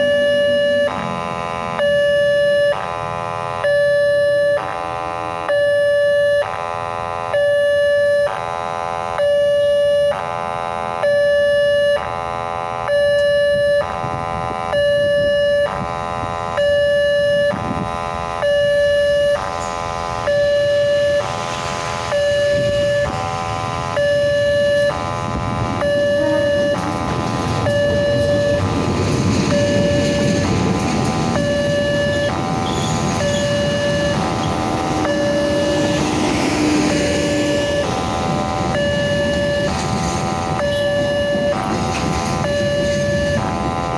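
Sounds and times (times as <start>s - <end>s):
two-tone level-crossing siren: 0.0s - 30.6s, 31.2s - 43.9s.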